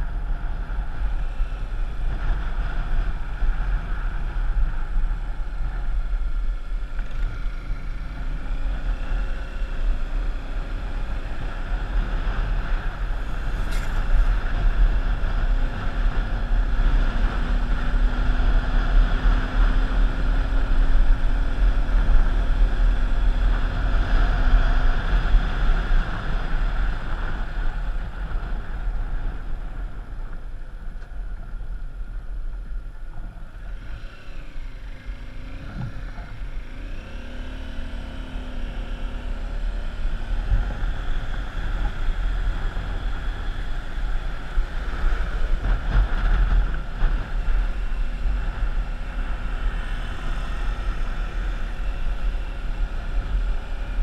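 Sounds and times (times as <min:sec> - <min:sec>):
vehicle running along road: 0:00.0 - 0:54.0
wind rumble on microphone: 0:00.0 - 0:54.0.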